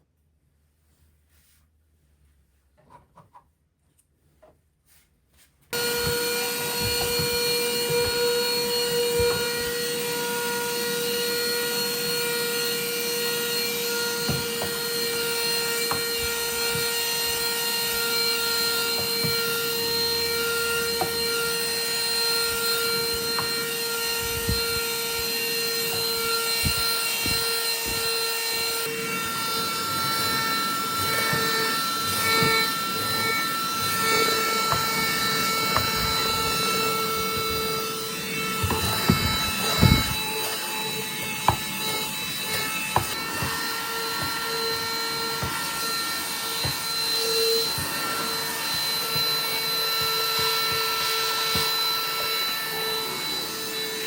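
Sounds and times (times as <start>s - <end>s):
vacuum cleaner running: 5.7s - 54.0s.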